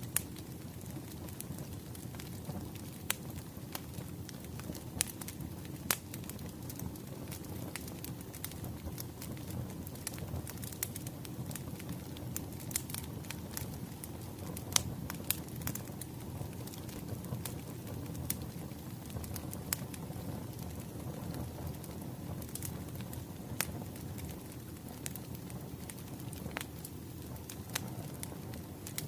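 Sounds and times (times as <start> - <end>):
low rumble of burning logs: 0.0 - 29.0
wood fire crackling and popping: 0.0 - 29.0.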